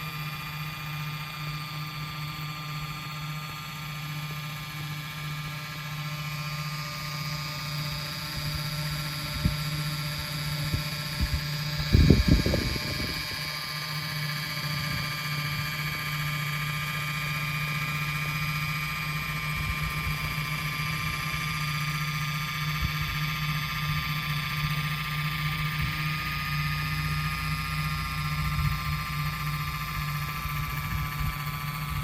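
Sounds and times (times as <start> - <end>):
high electric motor whine: 0.0 - 32.0
toy helicopter rotor hum: 0.0 - 32.0.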